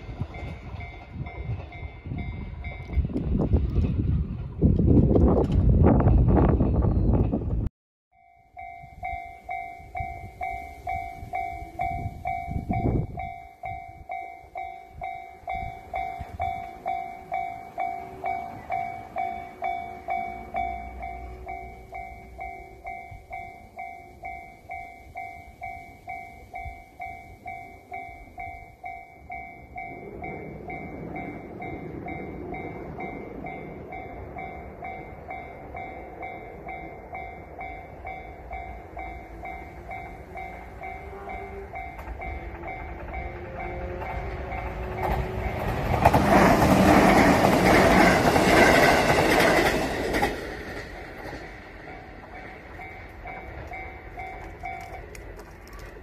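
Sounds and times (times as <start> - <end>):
level crossing warning bell: 0.0 - 3.1, 8.1 - 55.4
train passing: 0.0 - 56.0.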